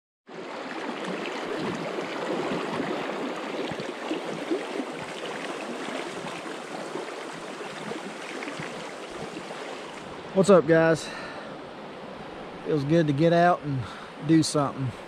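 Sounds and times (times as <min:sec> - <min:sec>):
creek water rushing over rocks: 0:00.3 - 0:15.0.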